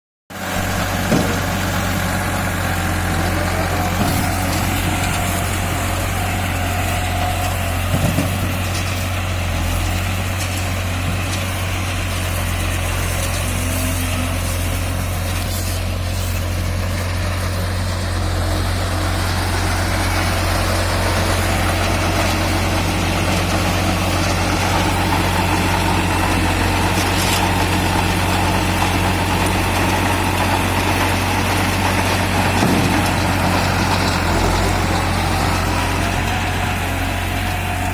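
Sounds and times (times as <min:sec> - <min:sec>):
engine idling: 0:00.3 - 0:37.9.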